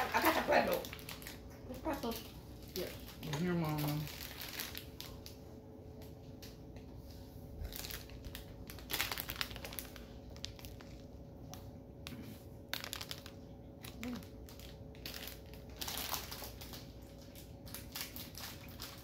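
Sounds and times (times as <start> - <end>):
snack packet crinkling: 0.0 - 5.4, 7.6 - 19.0.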